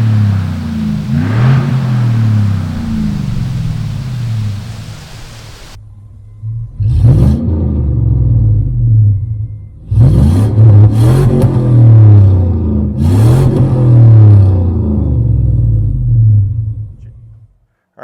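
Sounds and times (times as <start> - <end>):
engine exhaust idling and revving: 0.0 - 17.6.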